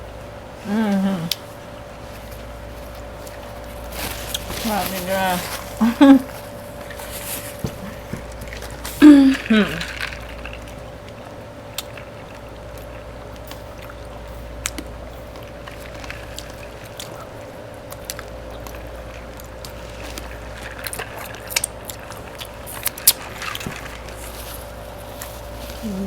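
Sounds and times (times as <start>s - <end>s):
faint steady hum: 0.0s - 26.0s
chewing and biting food: 2.3s - 25.9s.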